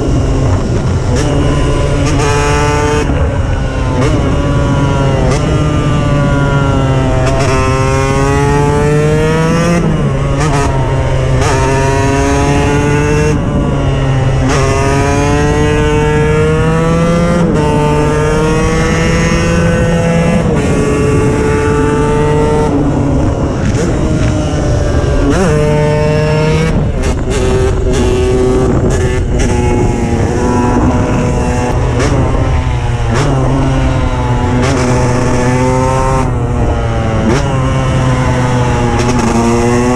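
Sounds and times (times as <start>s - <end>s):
two-stroke engine accelerating: 0.0s - 39.9s.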